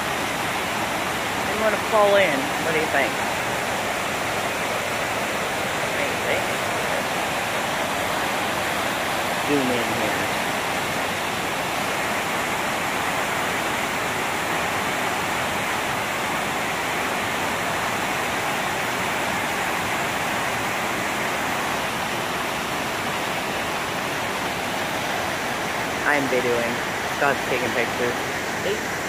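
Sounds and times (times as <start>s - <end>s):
water rushing over boulders: 0.0s - 29.0s.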